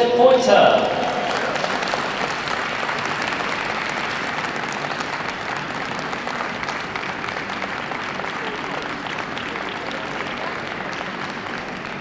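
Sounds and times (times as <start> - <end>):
audience applauding: 0.3 - 12.0.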